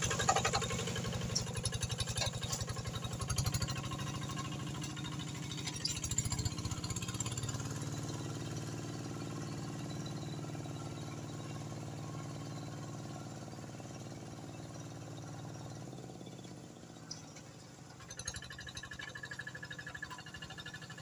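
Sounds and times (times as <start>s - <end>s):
diesel tractor engine chugging: 0.0s - 21.0s.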